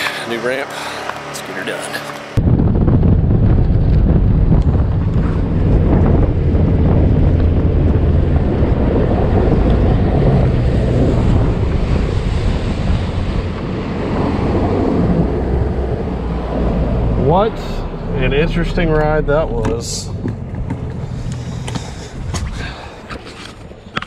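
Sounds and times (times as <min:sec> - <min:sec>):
outboard motor running: 0:00.0 - 0:23.8
wind buffeting microphone: 0:02.2 - 0:24.0.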